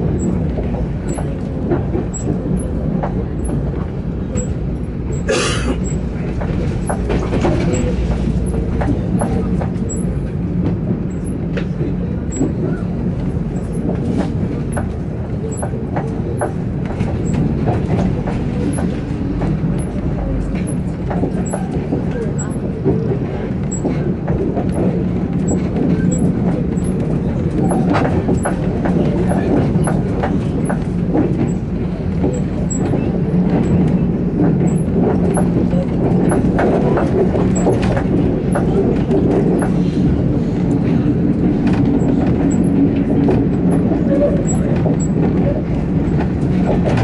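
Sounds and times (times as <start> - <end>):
train rumble: 0.0 - 47.0
wheels clicking over track: 0.2 - 47.0.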